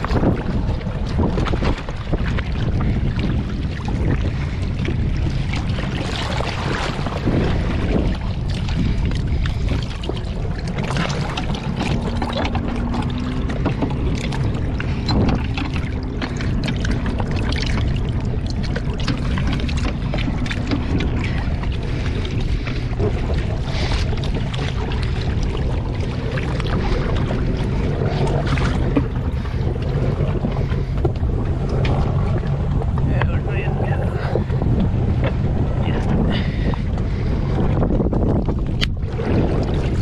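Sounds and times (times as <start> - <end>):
water sloshing and splashing: 0.0 - 40.0
wind rumbling on microphone: 0.0 - 40.0.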